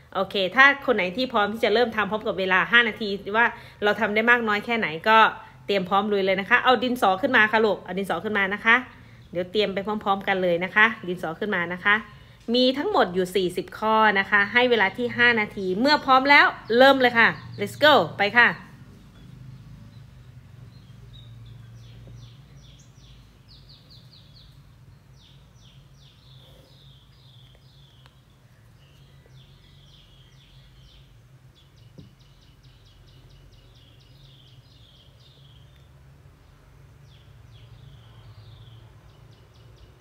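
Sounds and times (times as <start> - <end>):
small birds chirping: 0.0 - 40.0
steady low hum: 0.0 - 40.0.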